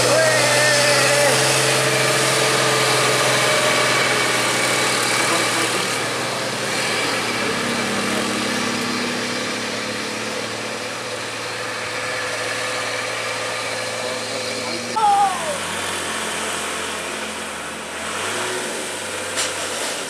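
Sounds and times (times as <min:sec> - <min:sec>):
truck diesel engine under load: 0:00.0 - 0:20.0.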